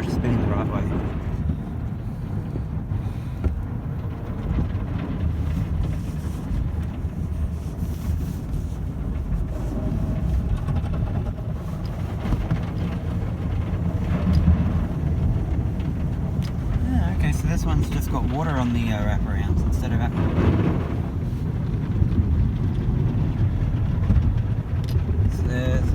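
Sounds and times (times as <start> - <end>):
car wash brushes and spraying water: 0.0 - 25.9.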